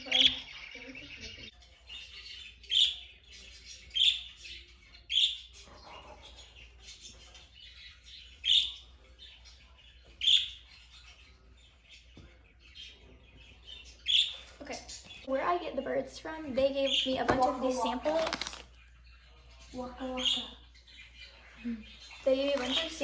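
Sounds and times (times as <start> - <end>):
lovebirds chirping: 0.0 - 23.0.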